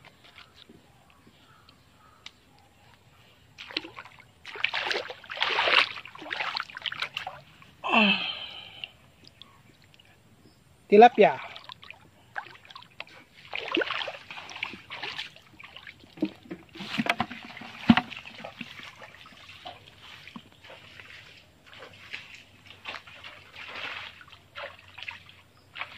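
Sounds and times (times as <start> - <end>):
water splashing and sloshing: 0.0 - 1.4, 3.5 - 10.2, 11.2 - 25.9.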